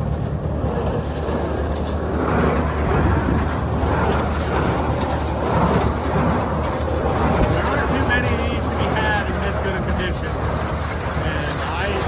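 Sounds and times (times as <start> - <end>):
baler mechanism clatter: 0.0 - 12.0
engine hum: 0.0 - 12.0.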